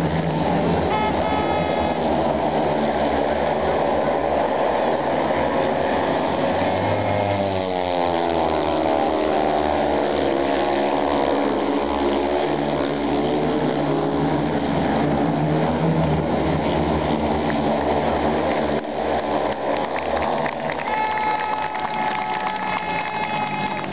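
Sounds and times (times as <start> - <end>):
motorcycle engines racing: 0.0 - 23.9.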